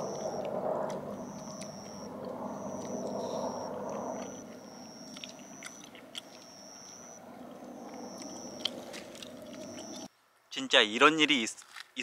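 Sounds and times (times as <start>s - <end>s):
food being chewed and crunched: 0.2s - 10.1s.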